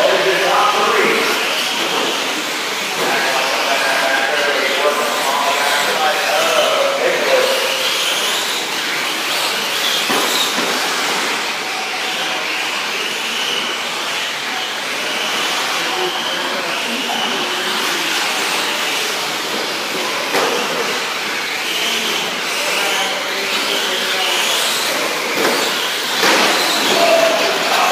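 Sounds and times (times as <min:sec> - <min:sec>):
rc trucks motor and gear whine: 0:00.0 - 0:27.9.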